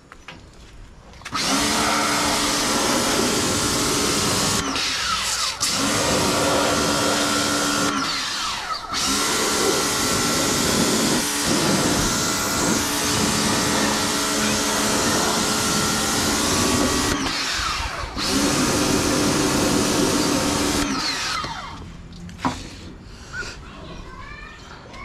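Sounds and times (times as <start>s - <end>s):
pressure washer motor hum: 1.3s - 21.9s.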